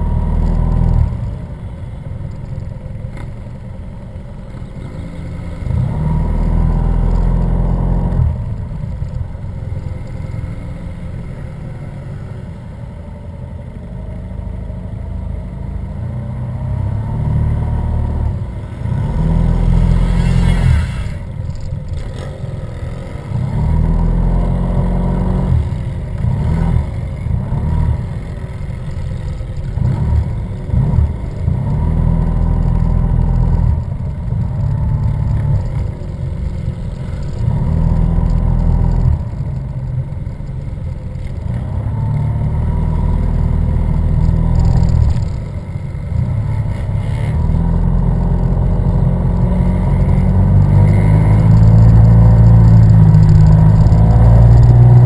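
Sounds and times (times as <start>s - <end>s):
scooter engines: 0.0s - 55.0s.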